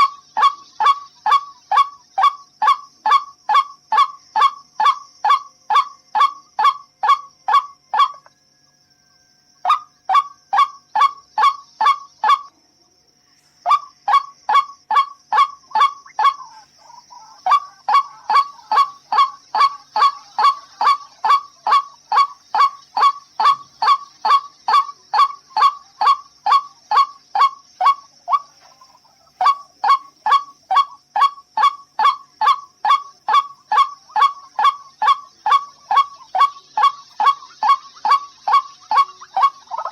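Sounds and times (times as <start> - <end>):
bird honking calls: 0.0 - 8.3, 9.7 - 12.5, 13.7 - 28.6, 29.4 - 39.9
faint high-pitched whine: 0.0 - 39.9.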